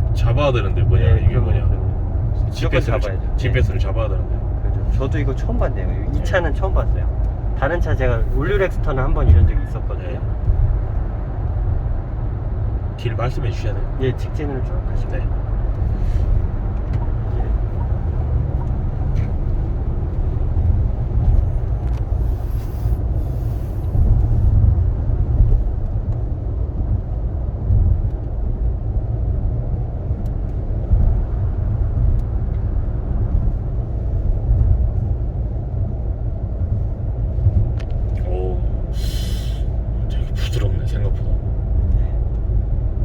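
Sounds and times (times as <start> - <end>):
car engine drone: 0.0 - 43.0
road and tyre rumble: 0.0 - 43.0.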